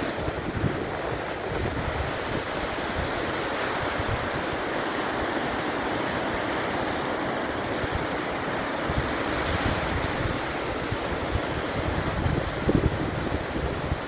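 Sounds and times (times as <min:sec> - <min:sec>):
sea surf crashing: 0:00.0 - 0:14.0
wind buffeting microphone: 0:00.0 - 0:14.0.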